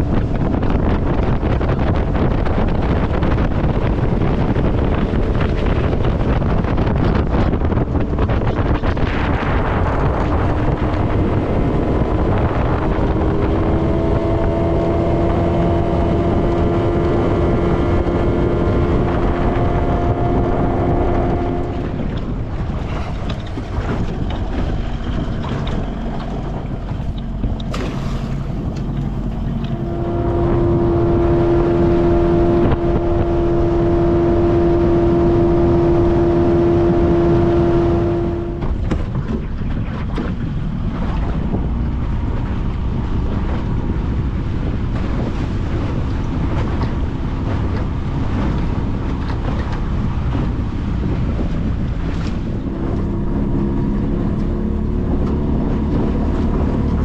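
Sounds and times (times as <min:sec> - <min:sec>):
outboard motor running: 0:00.0 - 0:57.0
rushing wind: 0:00.0 - 0:57.0
water noise: 0:00.0 - 0:57.0.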